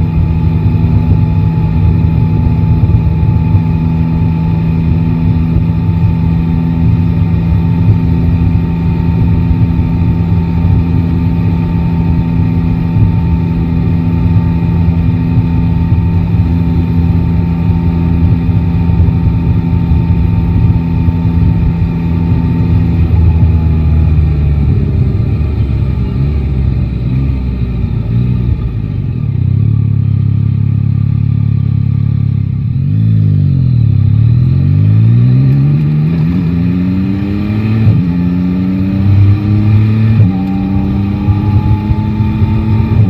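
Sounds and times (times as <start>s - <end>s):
motorcycle engine cruising: 0.0s - 43.0s
wind and road noise: 0.0s - 43.0s.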